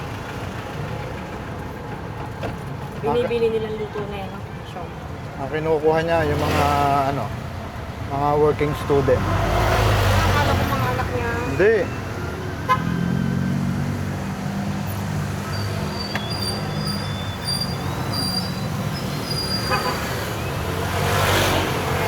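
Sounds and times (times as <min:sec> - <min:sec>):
traffic engine hum: 0:00.0 - 0:22.0.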